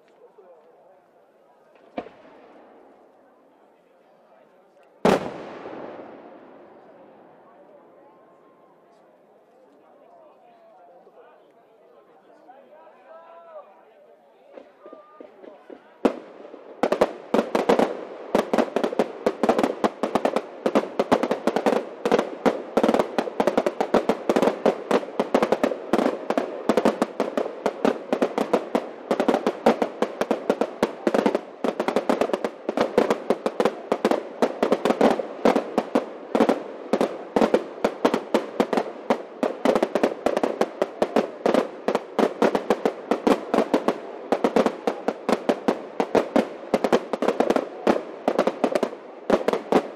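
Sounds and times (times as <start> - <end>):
fireworks bangs and crackles: 1.6 - 3.2, 4.2 - 8.1, 14.5 - 49.9.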